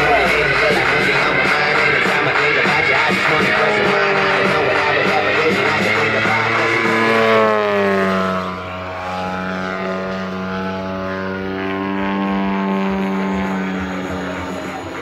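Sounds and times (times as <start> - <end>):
model airplane propeller engine: 0.0 - 15.0.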